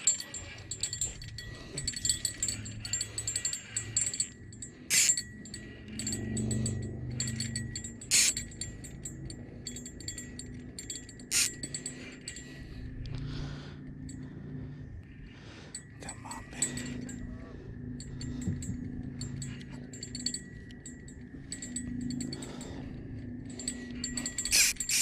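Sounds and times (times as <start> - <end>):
small bell jingling on fishing rod: 0.0 - 12.9, 15.7 - 25.0.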